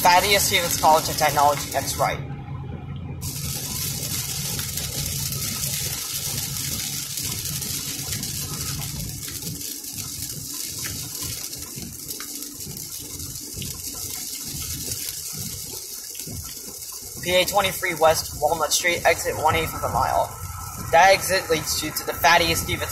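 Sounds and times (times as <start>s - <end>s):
faint ticks of raindrops: 0.0s - 2.1s, 3.0s - 22.9s
heavy rain and tyre spray: 0.0s - 2.2s, 3.2s - 22.9s
low road rumble: 0.0s - 22.9s.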